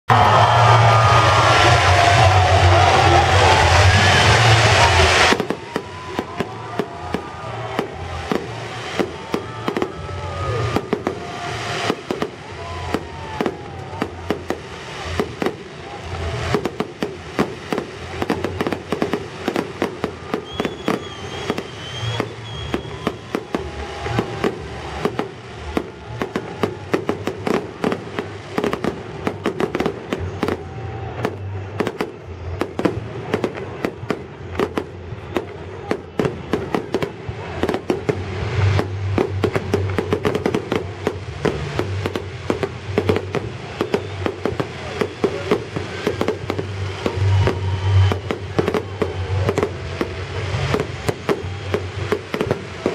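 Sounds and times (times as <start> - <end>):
fireworks bangs and crackles: 0.1 - 52.9.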